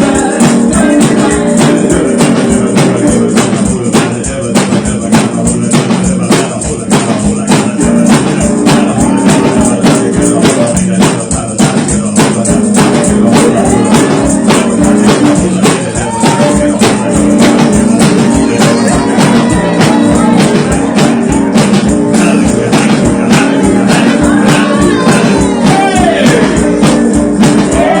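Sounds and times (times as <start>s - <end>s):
fast tambourine beat: 0.0s - 28.0s
gospel singing over chords: 0.0s - 28.0s.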